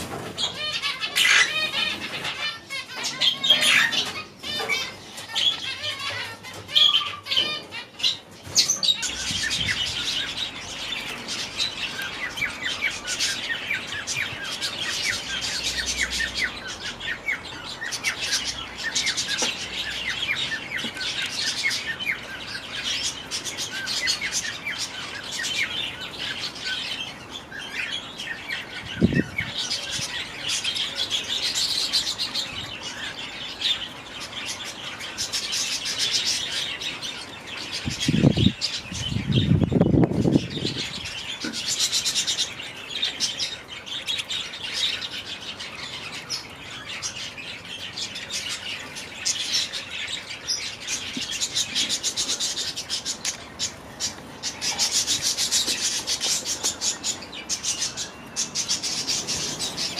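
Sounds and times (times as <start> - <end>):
finches chirping: 0.1 - 59.9.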